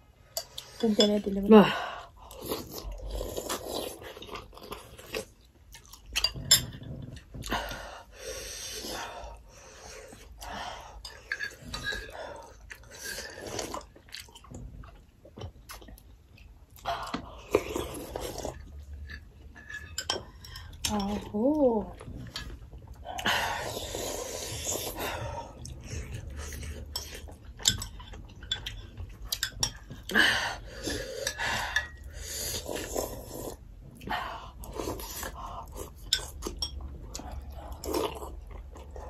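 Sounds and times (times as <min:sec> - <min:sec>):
chewing and slurping: 0:02.2 - 0:21.3, 0:22.0 - 0:39.0.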